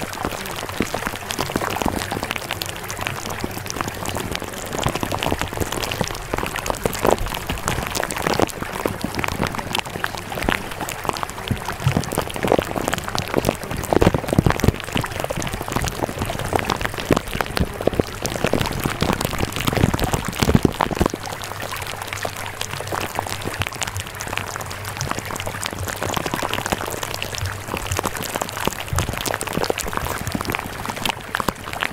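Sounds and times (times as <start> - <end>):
rain pattering: 0.0 - 31.9.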